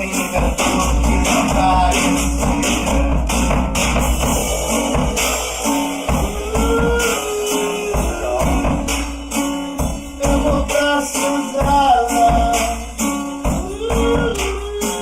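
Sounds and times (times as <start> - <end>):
band song with drum beat: 0.0 - 15.0.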